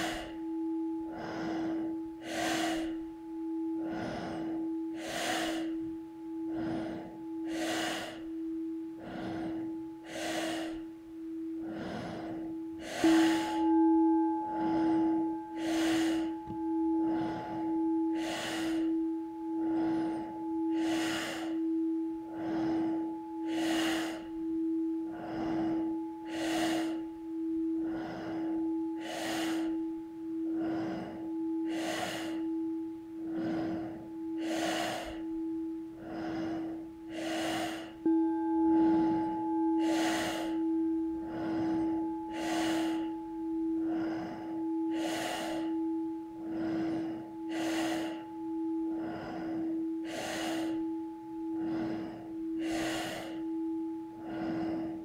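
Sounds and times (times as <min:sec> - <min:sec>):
forceful breathing through nose: 0:00.0 - 0:55.0
singing bowl ringing: 0:00.0 - 0:55.0.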